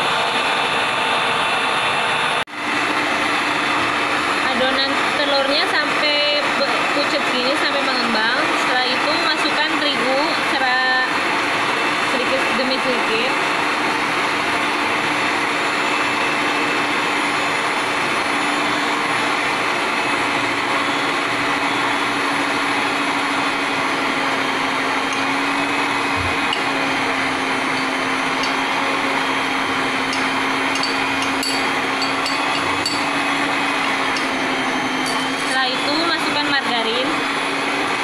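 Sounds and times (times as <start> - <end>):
electric hand mixer whipping batter: 0.0 - 38.0.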